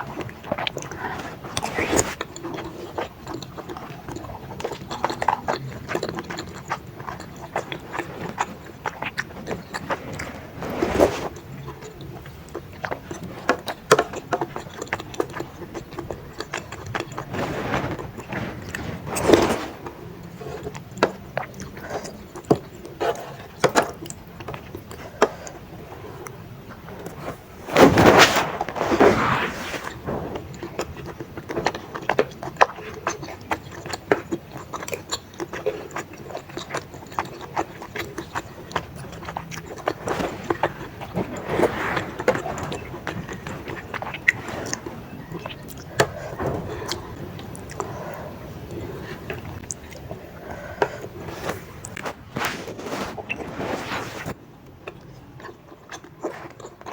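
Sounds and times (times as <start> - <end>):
close chewing sounds: 0.0 - 29.0, 29.7 - 56.9.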